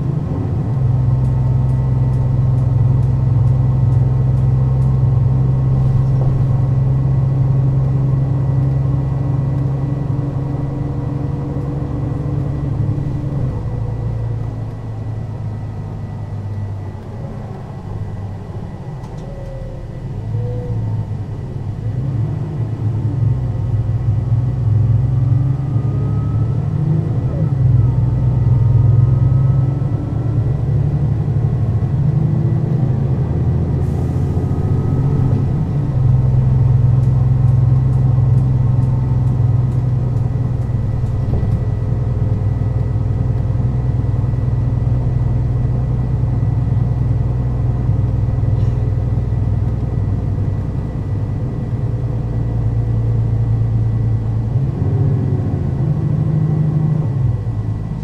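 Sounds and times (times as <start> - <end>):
bus diesel engine humming: 0.0 - 58.0.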